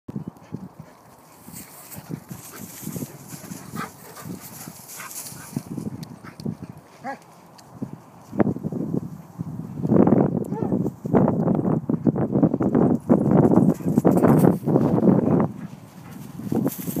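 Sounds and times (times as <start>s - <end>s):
rustling grass: 1.0s - 10.2s, 12.2s - 17.0s.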